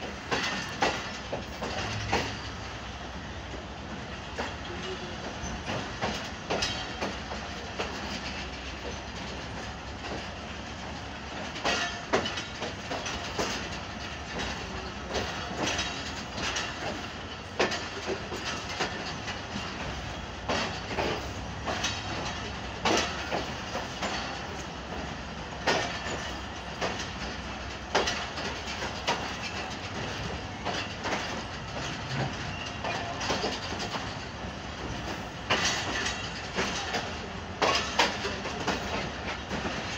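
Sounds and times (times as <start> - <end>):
train wheels rumbling on track: 0.0 - 39.9
wheels clacking over rail joints: 0.0 - 39.9.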